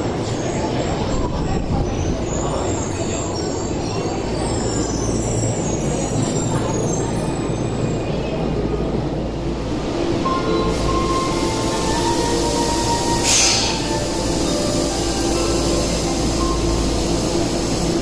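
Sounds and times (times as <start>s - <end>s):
subway trains rumbling: 0.0s - 18.0s.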